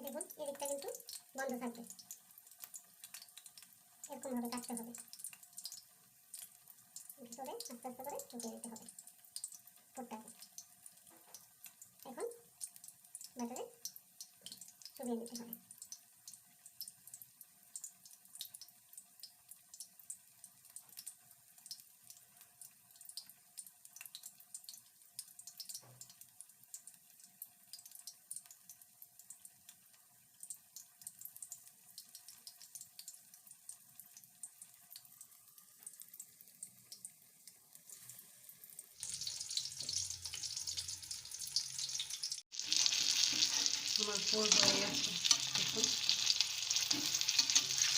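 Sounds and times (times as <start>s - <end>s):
faint ticking and crackling: 0.0s - 47.9s
food frying in hot oil: 0.0s - 47.9s.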